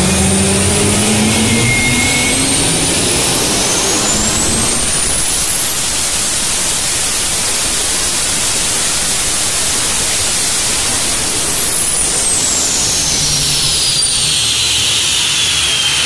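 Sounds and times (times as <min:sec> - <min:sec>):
gas turbine engine roar: 0:00.0 - 0:16.0
high turbine whistle: 0:00.0 - 0:16.0.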